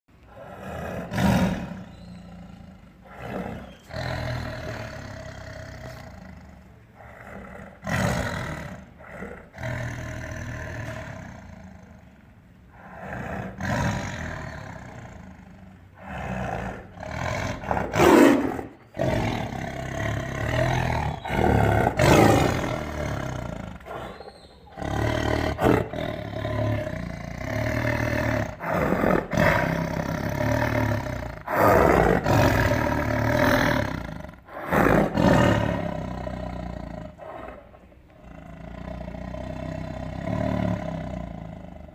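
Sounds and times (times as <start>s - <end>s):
low rumbling growls: 0.2s - 41.9s
tiger snarling: 0.3s - 41.9s.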